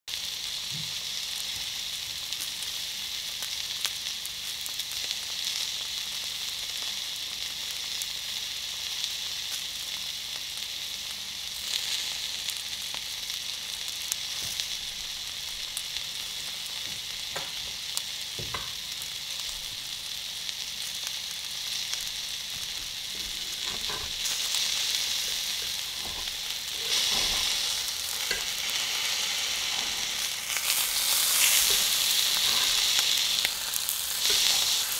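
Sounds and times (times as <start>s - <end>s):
food sizzling in hot oil: 0.1s - 34.9s.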